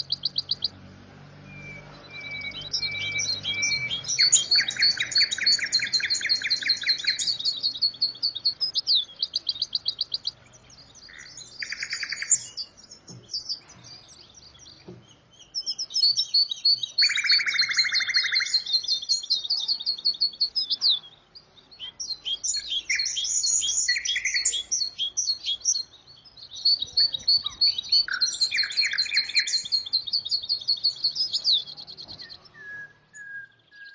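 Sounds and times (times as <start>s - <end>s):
songbird twittering: 0.0s - 0.8s, 1.4s - 33.9s.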